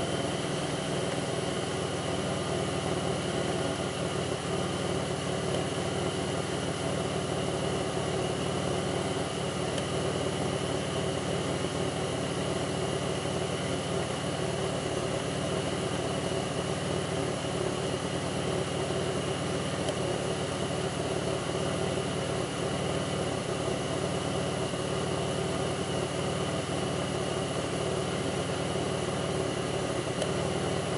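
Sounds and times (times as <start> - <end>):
car engine idling: 0.0 - 30.9
constant high whine: 0.0 - 30.9.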